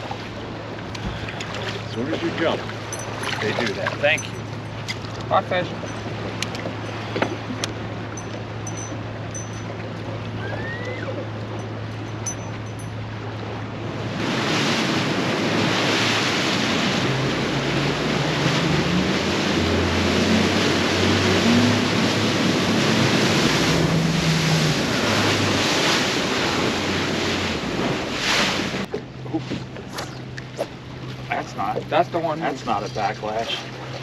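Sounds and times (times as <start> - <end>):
outboard engine drone: 0.0 - 34.0
rushing water: 0.0 - 34.0.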